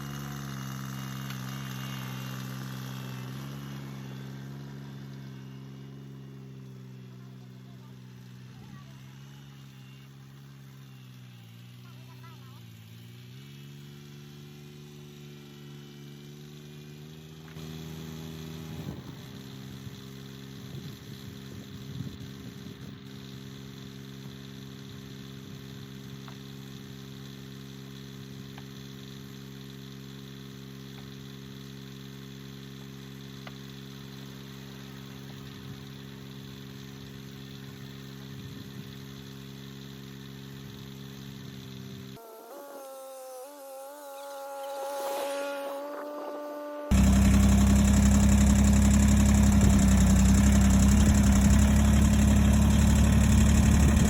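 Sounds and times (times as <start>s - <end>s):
sawmill gas engine running: 0.0s - 54.0s.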